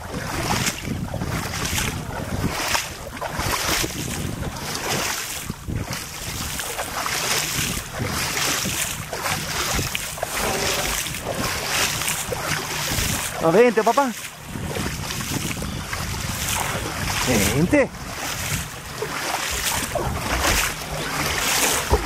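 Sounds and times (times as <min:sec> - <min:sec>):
water sloshing against a boat: 0:00.0 - 0:22.0
wind buffeting microphone: 0:00.0 - 0:22.0.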